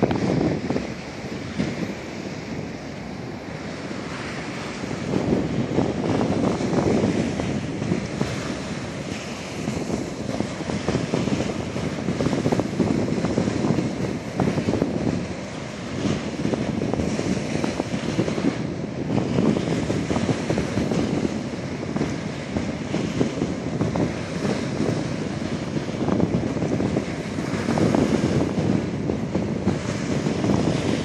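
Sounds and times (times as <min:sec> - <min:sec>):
river water rushing: 0:00.0 - 0:31.0
waves slapping concrete: 0:00.0 - 0:31.0
wind buffeting microphone: 0:00.0 - 0:31.0.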